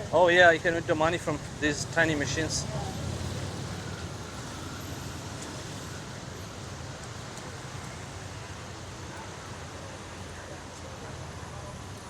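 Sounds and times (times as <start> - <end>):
low hum of traffic: 0.0 - 12.0.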